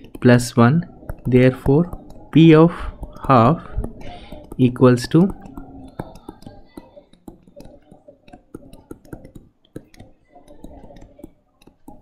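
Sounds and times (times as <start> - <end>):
stylus tapping on tablet screen: 0.0 - 12.0.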